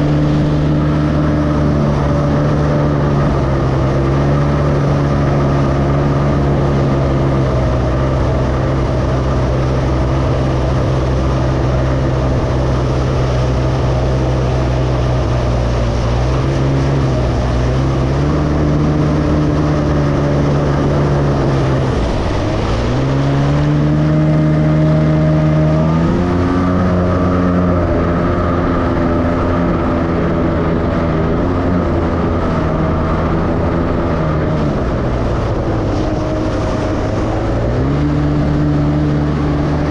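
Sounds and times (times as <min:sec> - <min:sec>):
jet ski engine running: 0:00.0 - 0:39.9
rushing water and wind: 0:00.0 - 0:39.9.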